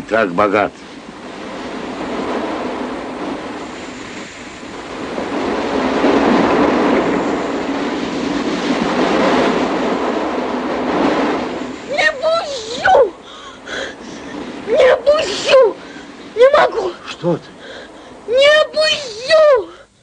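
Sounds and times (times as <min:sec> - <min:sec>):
surf breaking on beach: 0:00.0 - 0:19.8.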